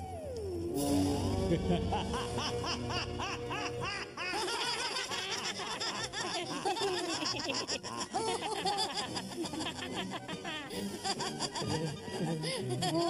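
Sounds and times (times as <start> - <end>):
people laughing: 1.2 - 13.0.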